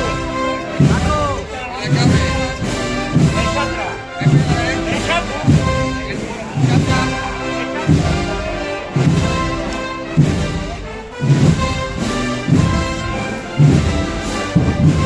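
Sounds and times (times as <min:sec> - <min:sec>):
brass band playing march: 0:00.0 - 0:15.0
heavy drum beat: 0:00.0 - 0:15.0.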